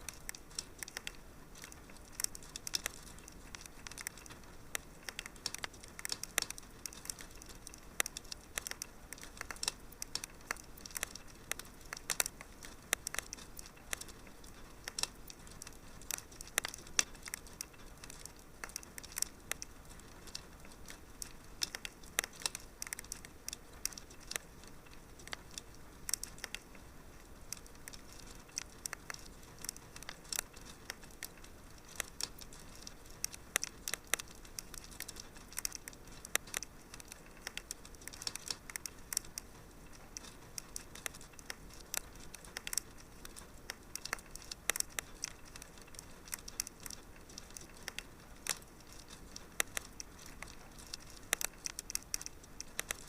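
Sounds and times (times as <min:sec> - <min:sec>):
fire crackling in a fireplace: 0:00.0 - 0:53.0.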